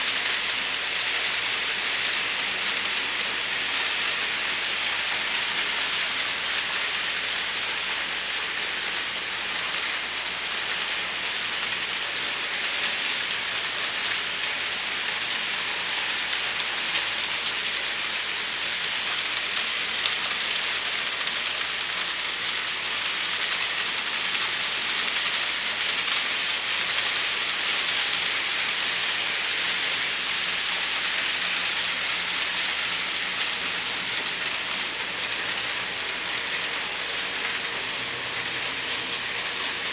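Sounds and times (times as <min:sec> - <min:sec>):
model train wheels rattling on rail: 0:00.1 - 0:39.9.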